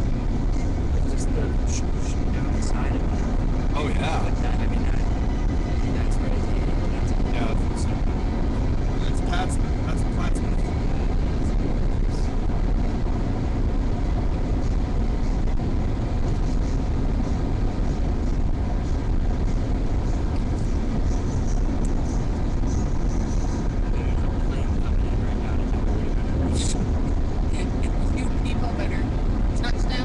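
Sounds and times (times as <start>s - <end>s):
car cabin road and engine noise: 0.0s - 30.0s.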